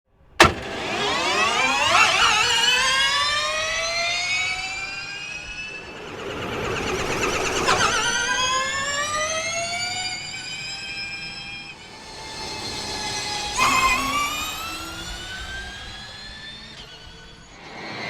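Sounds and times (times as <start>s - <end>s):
electric race car whine: 0.4s - 18.0s.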